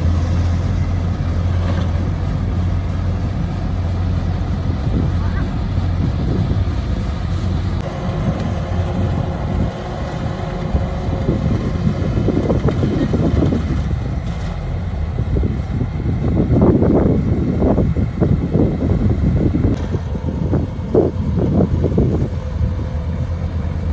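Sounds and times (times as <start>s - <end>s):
combine harvester engine drone: 0.0s - 23.9s.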